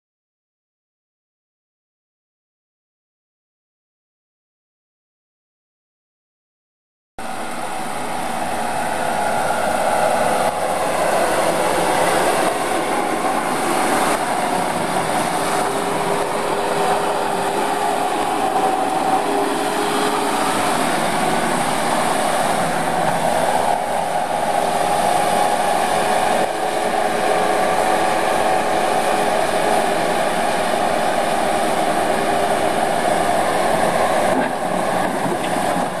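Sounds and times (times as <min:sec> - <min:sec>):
diesel engine running: 0:07.2 - 0:36.0
steady whine: 0:07.2 - 0:36.0.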